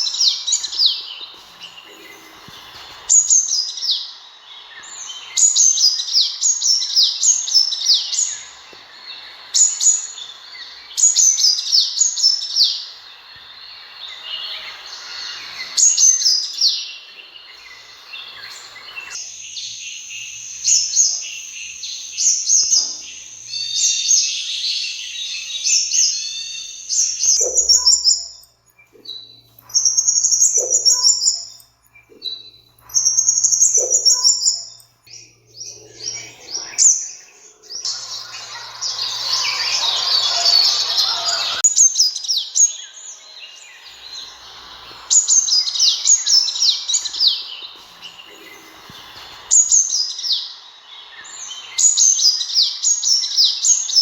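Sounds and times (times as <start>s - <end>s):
sunbird high thin chirps: 0.0s - 54.0s.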